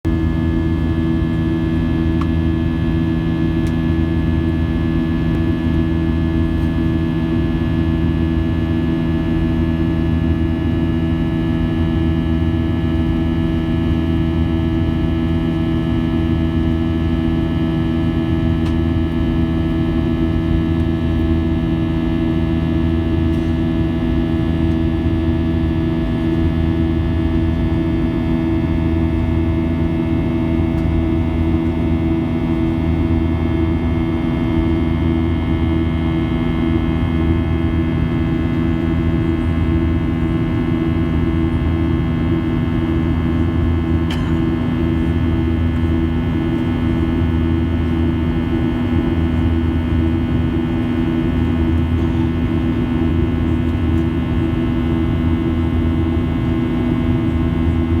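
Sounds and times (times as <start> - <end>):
steady machine hum: 0.1 - 58.0.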